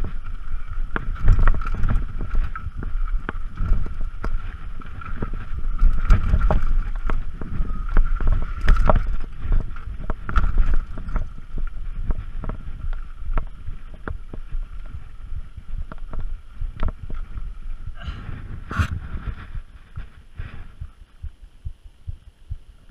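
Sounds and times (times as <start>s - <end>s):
bike knocking and rattling: 0.0s - 22.6s
wind rumble on microphone: 0.0s - 22.9s.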